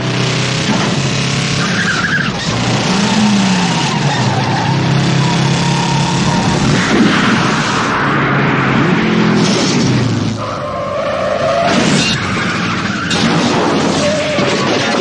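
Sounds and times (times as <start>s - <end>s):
car engines revving hard: 0.0s - 15.0s
tyres screeching and skidding: 0.0s - 15.0s.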